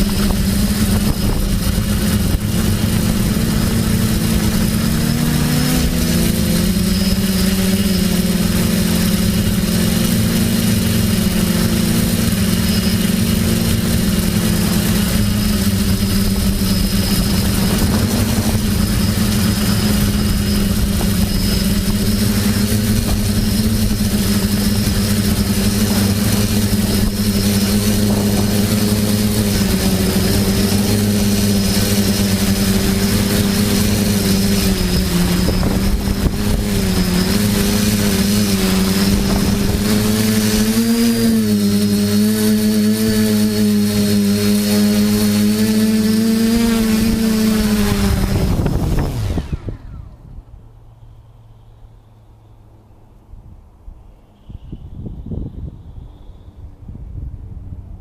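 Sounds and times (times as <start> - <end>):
drone propellers buzzing: 0.0 - 51.9.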